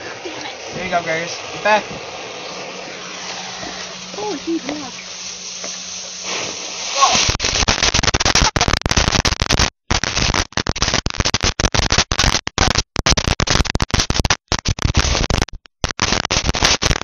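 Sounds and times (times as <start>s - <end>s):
firework crackling and popping: 0.0s - 17.0s.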